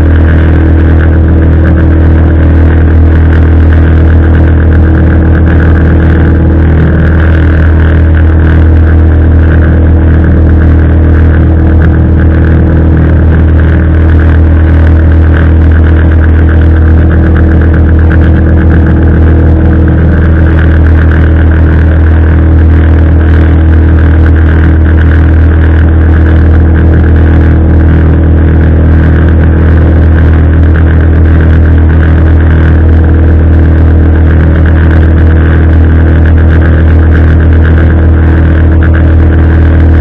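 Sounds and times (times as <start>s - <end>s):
boat motor droning: 0.0s - 40.0s.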